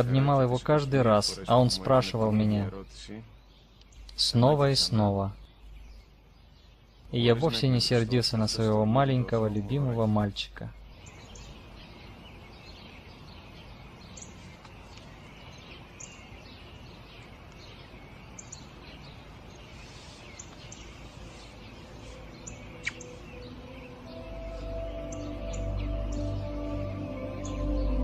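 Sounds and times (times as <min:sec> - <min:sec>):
low outdoor hiss: 0:00.0 - 0:28.0
small birds chirping: 0:00.0 - 0:28.0.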